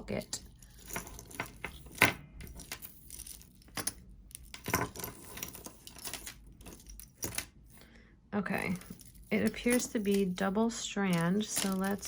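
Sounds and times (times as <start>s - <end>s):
necklace chain clinking: 0.0s - 7.8s, 8.6s - 12.0s.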